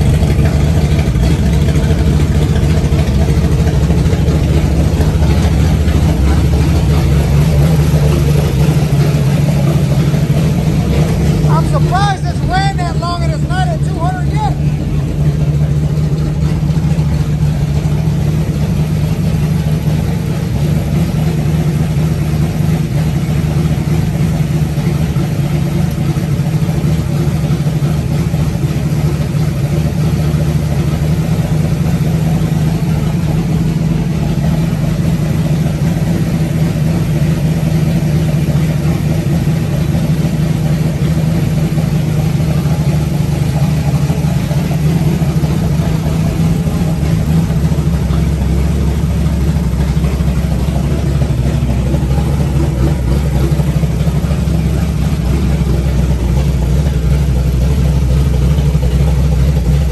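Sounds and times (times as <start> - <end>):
car engine running steadily: 0.0 - 59.9.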